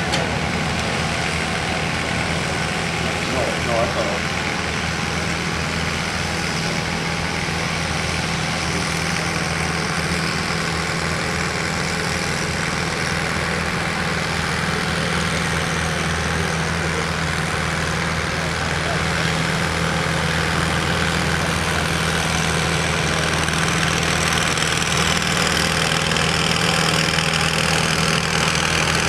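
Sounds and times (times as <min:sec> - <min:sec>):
diesel tractor engine idling: 0:00.0 - 0:29.0.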